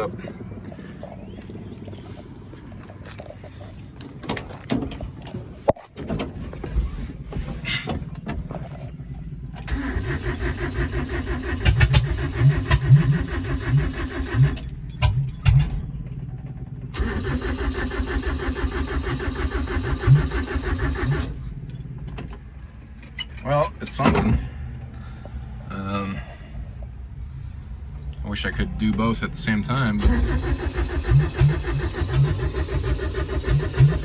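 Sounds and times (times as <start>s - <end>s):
engine cranking: 3.0s - 24.9s, 27.5s - 34.0s
engine firing unevenly: 6.3s - 34.0s.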